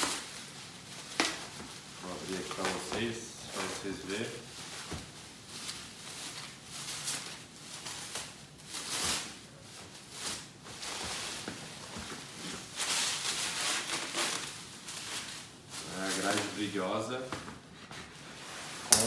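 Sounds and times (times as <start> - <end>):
bubble wrap crinkling: 0.0 - 19.0.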